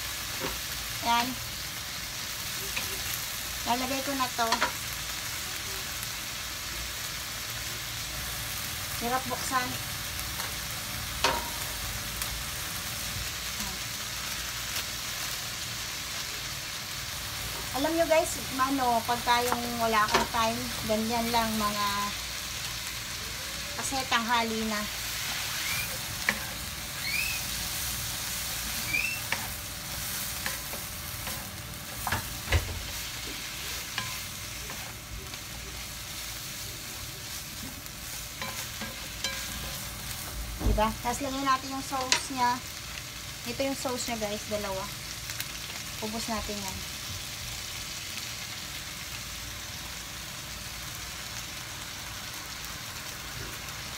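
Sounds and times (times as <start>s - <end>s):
vegetables sizzling in a wok: 0.0s - 53.9s.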